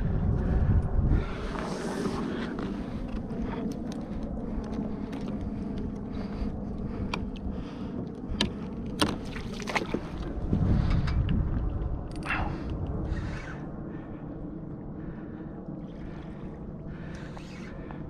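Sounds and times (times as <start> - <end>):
waves lapping against a hull: 0.0 - 18.0
wind on microphone: 0.0 - 18.0.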